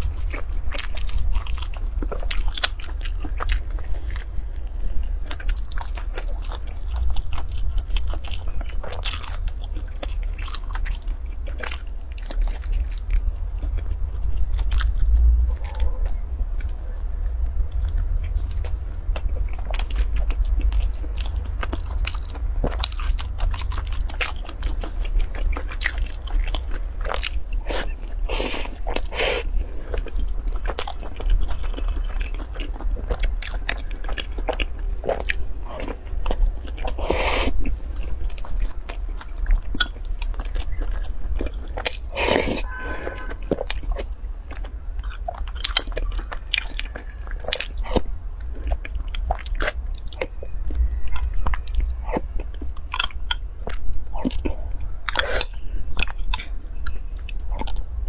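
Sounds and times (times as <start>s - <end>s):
chewing and lip smacking: 0.0s - 58.0s
steady low hum: 0.0s - 58.0s.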